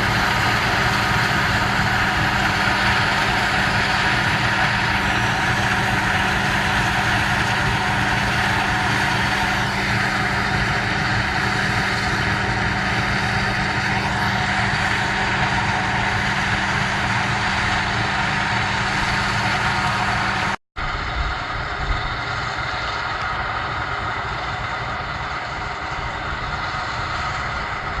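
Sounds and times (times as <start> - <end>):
combine harvester machine drone: 0.0 - 28.0
low hum: 0.0 - 28.0.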